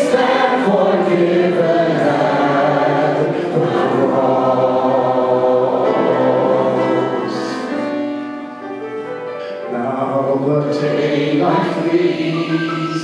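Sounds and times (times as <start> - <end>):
choir singing a hymn: 0.0 - 8.8, 9.7 - 13.0.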